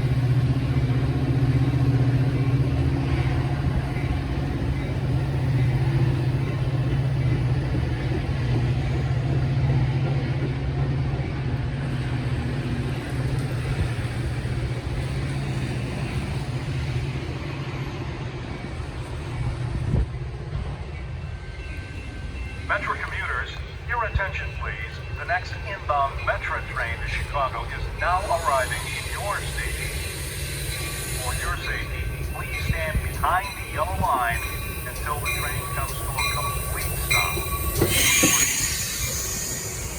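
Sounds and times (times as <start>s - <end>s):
diesel train engine drone: 0.0s - 39.9s
train rolling noise: 0.0s - 39.9s.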